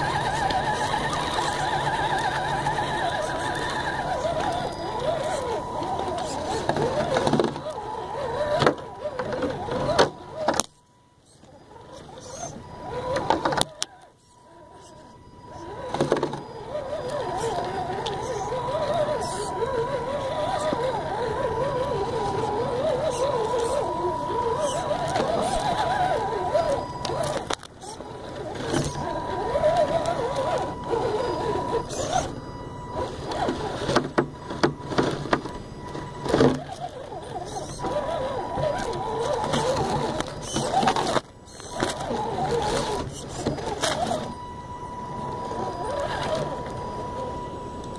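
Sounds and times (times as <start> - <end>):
grass scraping against truck: 0.0 - 10.7, 14.9 - 44.4
electric motor and gears whining: 0.0 - 47.9.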